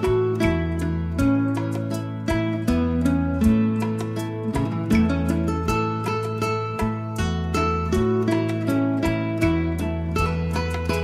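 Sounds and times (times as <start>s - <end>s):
low bass notes: 0.0s - 11.0s
plucked string music: 0.0s - 11.0s.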